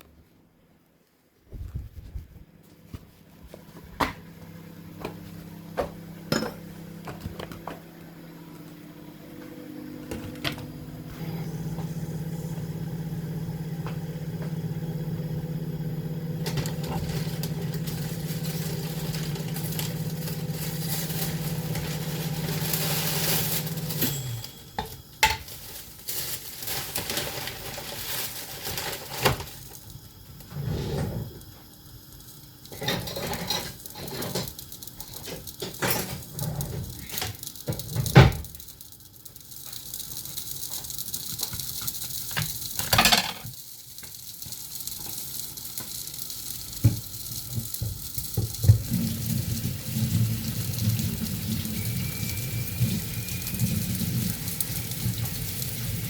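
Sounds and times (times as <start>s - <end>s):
steady appliance hum: 0.0s - 56.0s.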